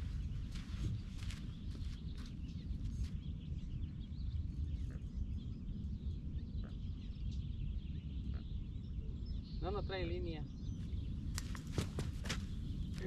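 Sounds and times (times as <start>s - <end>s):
birds twittering: 0.0s - 13.0s
wind on microphone: 0.0s - 13.0s.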